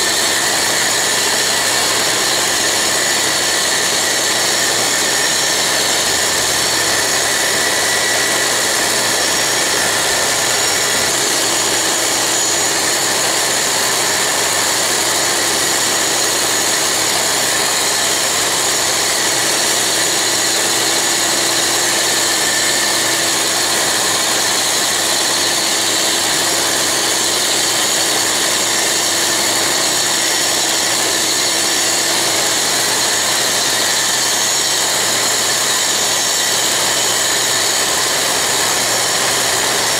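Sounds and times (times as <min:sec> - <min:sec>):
grinder whining and grinding steel: 0:00.0 - 0:39.9.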